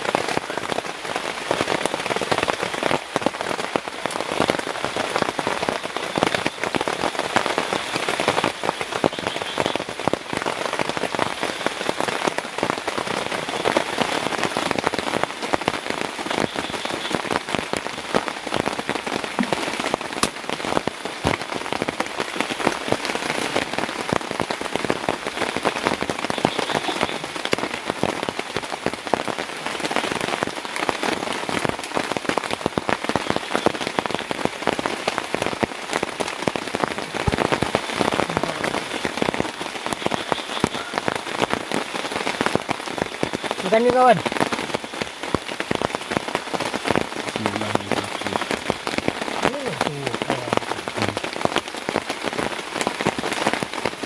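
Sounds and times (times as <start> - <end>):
heavy rain falling: 0.0 - 54.0
raindrops tapping close by: 0.0 - 54.0.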